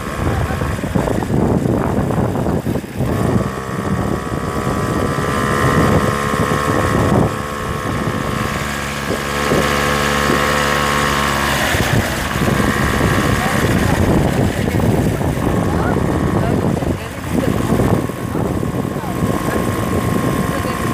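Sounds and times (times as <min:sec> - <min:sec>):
vehicle engine running: 0:00.0 - 0:20.9
wind on microphone: 0:00.0 - 0:20.9.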